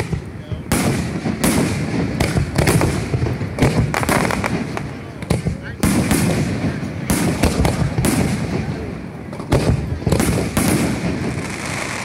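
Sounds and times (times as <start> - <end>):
fireworks booming with echo: 0.0 - 12.0.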